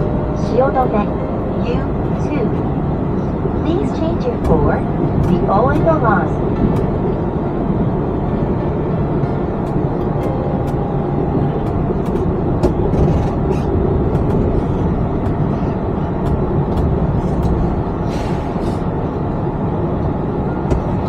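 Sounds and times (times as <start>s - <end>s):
train cabin low rumble: 0.0s - 21.0s.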